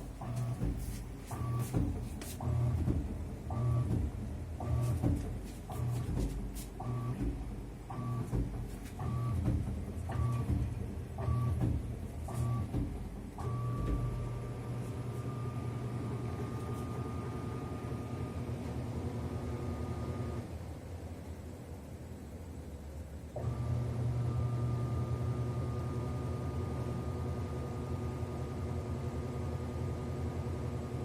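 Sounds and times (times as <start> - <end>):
washing machine motor whining: 0.0 - 31.0.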